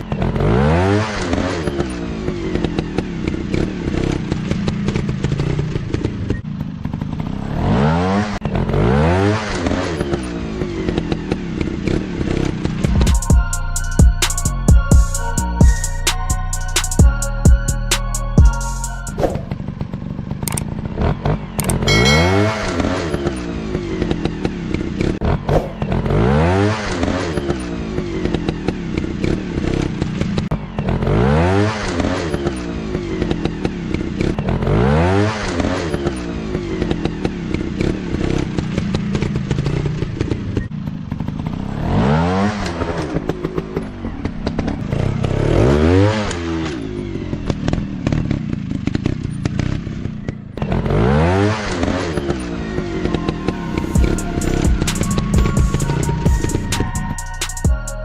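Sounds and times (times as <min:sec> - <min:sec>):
dirt-bike engines revving: 0:00.0 - 0:13.3, 0:19.2 - 0:57.7.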